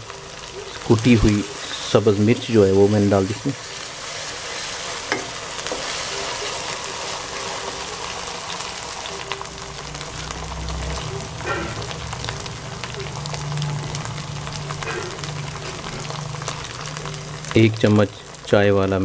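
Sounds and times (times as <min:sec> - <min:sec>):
onion sizzling in oil: 0:00.0 - 0:19.0.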